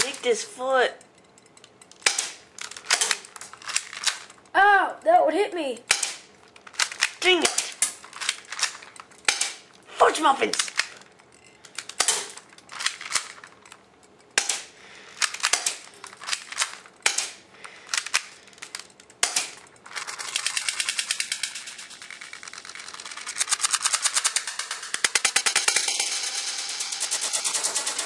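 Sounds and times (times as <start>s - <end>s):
toy guns shooting: 0.0s - 0.5s, 1.9s - 4.4s, 5.8s - 11.0s, 11.7s - 13.6s, 14.3s - 28.0s.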